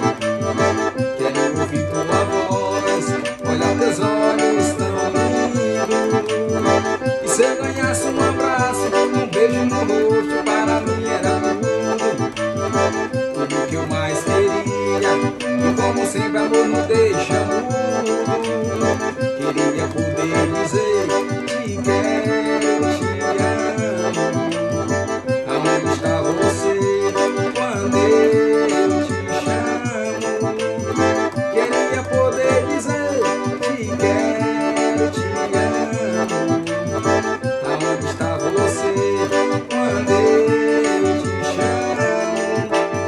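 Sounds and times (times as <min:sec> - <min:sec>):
accordion melody: 0:00.0 - 0:43.0.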